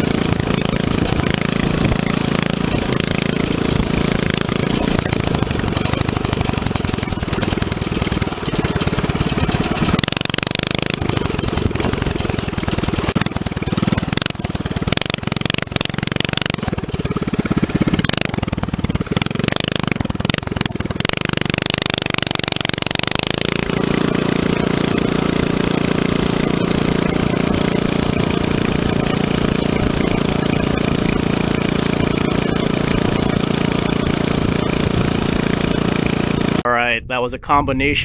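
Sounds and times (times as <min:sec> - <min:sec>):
mini bike engine running: 0:00.0 - 0:36.6.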